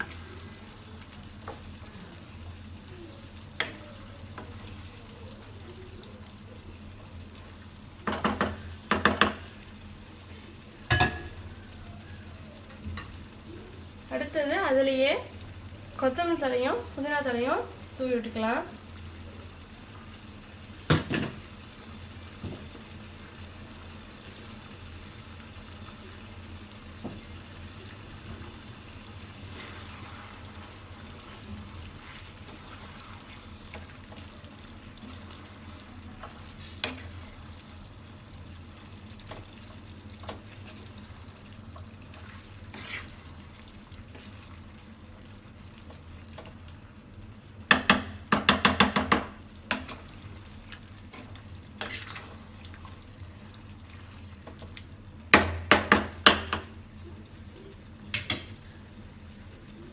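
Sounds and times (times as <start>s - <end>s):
gentle sizzle in a pan: 0.0s - 59.9s.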